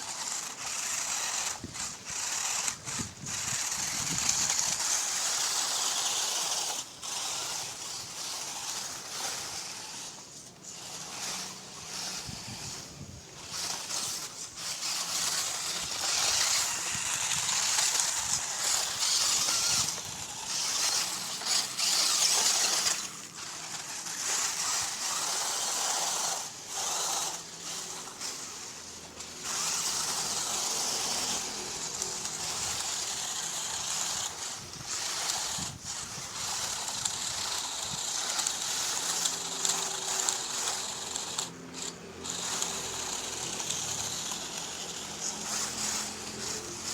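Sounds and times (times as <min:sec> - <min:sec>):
electric motor and gearbox whirring: 0:00.0 - 0:46.9.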